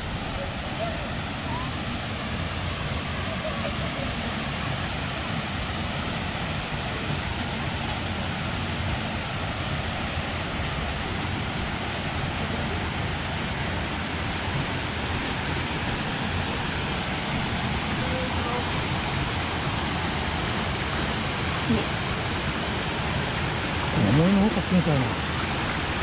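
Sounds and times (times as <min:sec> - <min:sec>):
small waterfall rushing: 0:00.0 - 0:26.0
stream running over rocks: 0:00.0 - 0:26.0.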